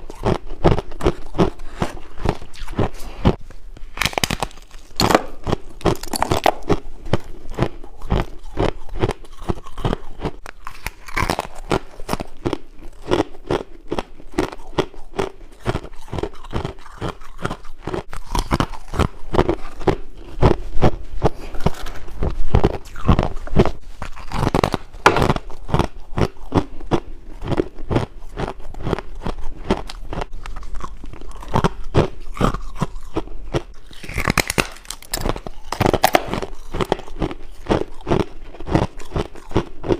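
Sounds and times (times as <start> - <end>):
ice being chewed crunching: 0.0 - 3.4, 4.0 - 39.9.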